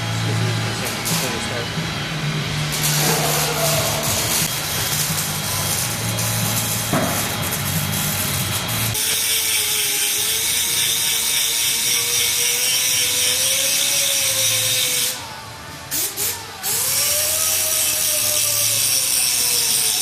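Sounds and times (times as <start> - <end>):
power grinder grinding metal: 0.2 - 15.3, 16.0 - 20.0.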